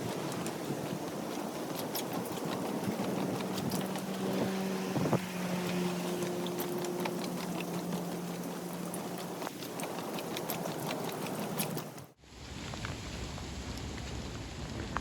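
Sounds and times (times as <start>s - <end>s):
low motor hum: 0.0s - 12.2s
rain hiss with drop taps: 0.0s - 15.0s.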